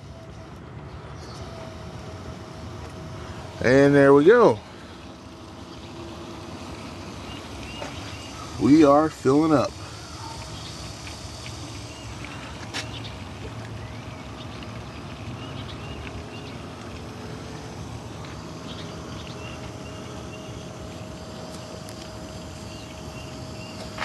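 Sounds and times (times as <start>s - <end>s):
electric fuel pump humming: 0.0s - 24.0s.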